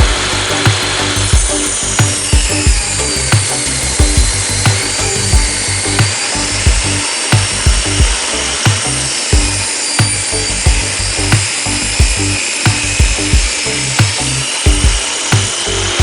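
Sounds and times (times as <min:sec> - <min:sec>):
background music with steady beat: 0:00.0 - 0:16.0
table saw cutting wood: 0:00.0 - 0:16.0.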